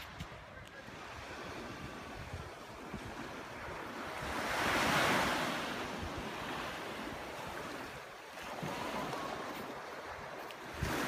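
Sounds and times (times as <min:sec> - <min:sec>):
small waves breaking on beach: 0:00.0 - 0:11.0
wind buffeting microphone: 0:00.0 - 0:11.0.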